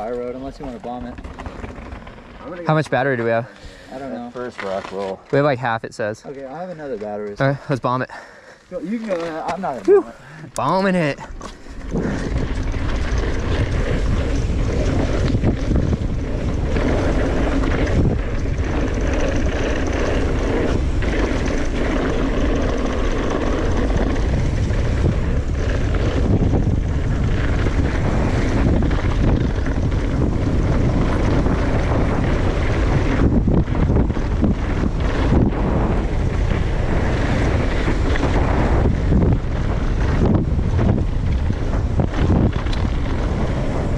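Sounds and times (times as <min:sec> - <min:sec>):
bike rattling: 0:00.0 - 0:43.9
bike tyres rolling on gravel: 0:00.0 - 0:43.9
wind noise on microphone: 0:00.0 - 0:43.9.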